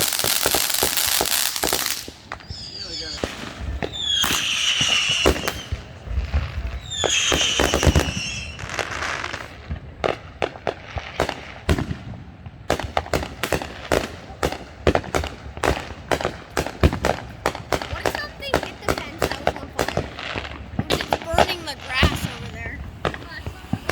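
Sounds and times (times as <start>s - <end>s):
firework bangs and crackles: 0.0s - 23.9s
whistling firework: 0.0s - 23.9s.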